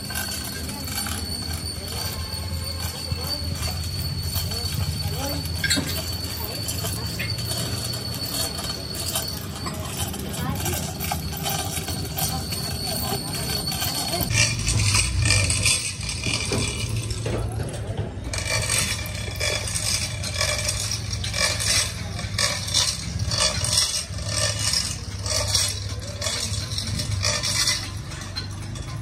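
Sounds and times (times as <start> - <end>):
metal chains clinking and scraping: 0.0 - 29.0.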